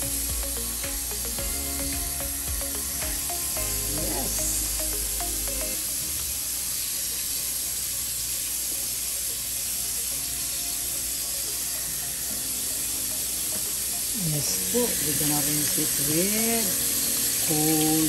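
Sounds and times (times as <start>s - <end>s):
soft background music: 0.0s - 18.0s
tap water running: 0.0s - 18.0s.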